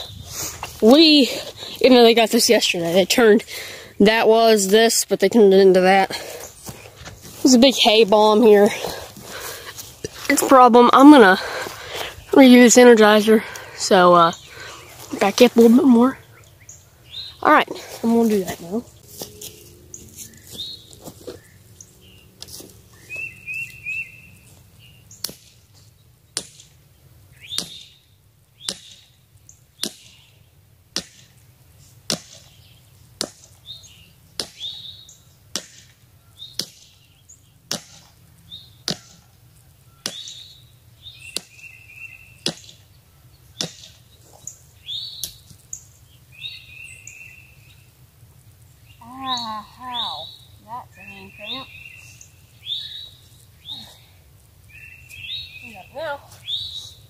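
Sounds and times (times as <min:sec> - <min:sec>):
birds chirping faintly: 0:00.0 - 0:30.8, 0:32.3 - 0:57.0.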